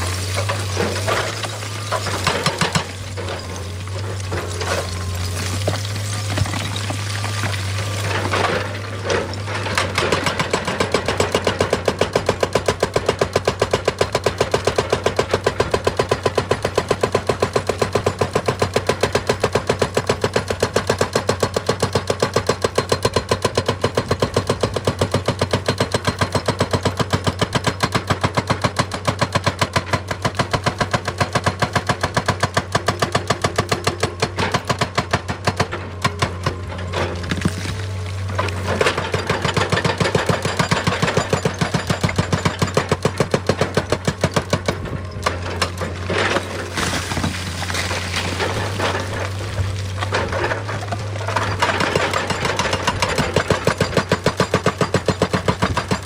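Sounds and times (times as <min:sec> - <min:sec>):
hydraulic breaker hammering stone: 0:00.0 - 0:37.8, 0:38.5 - 0:49.2, 0:49.9 - 0:56.0.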